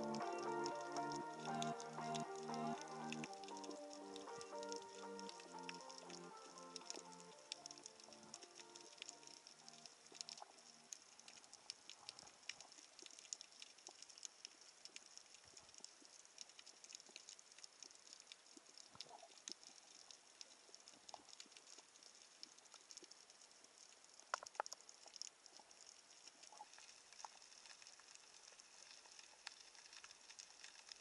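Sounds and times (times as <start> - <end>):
underwater crackle of clicks: 0.0 - 31.0.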